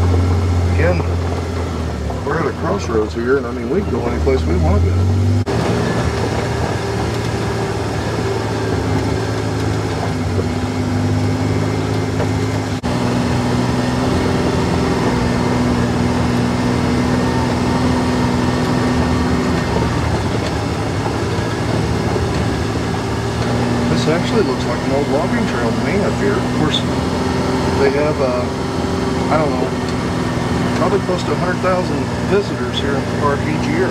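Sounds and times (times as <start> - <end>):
vehicle engine running: 0.0 - 33.9
tyres on gravel: 5.5 - 33.9.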